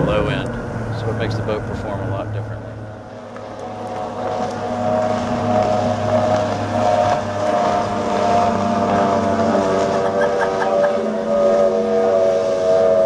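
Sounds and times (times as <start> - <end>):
race boat engine at speed: 0.0 - 13.0.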